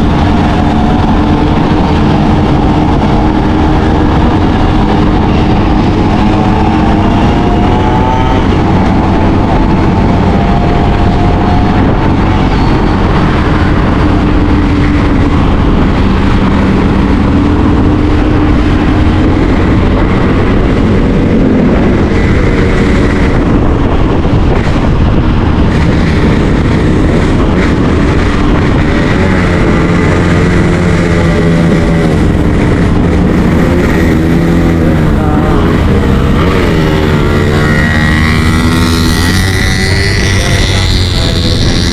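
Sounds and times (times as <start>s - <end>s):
motorbike engine running: 0.0s - 41.9s
wind rushing over microphone: 0.0s - 41.9s.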